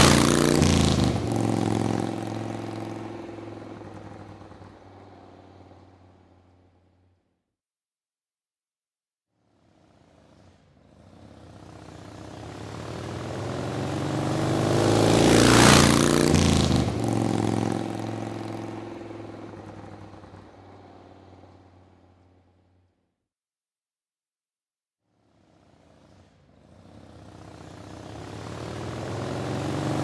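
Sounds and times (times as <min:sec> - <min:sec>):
motorcycle driving past: 0:00.0 - 0:07.2, 0:09.5 - 0:22.8, 0:25.2 - 0:30.0.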